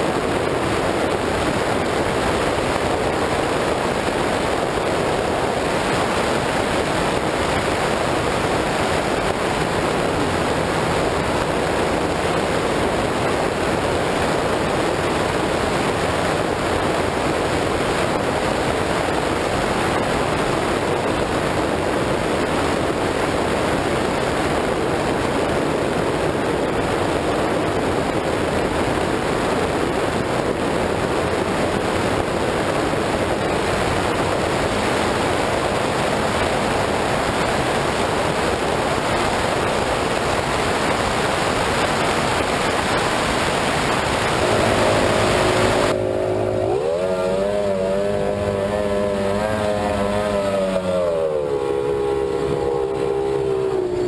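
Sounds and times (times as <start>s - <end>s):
race boat loud rush: 0.0s - 54.0s.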